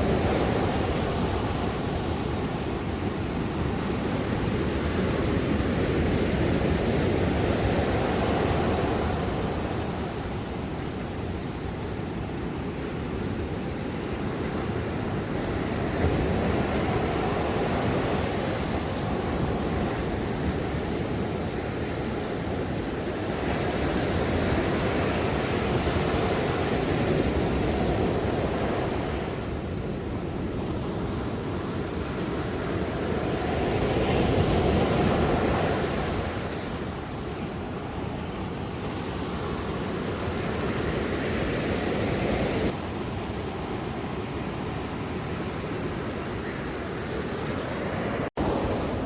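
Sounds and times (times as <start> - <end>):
ocean waves washing on shore: 0.0 - 49.0.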